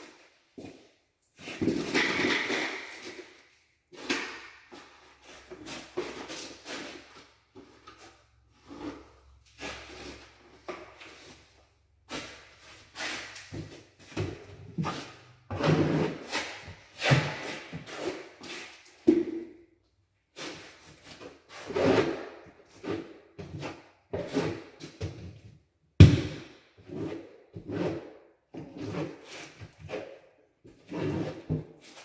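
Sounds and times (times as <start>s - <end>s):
trowel scraping mastic on wall: 1.4s - 19.6s, 20.3s - 25.3s, 26.2s - 32.0s.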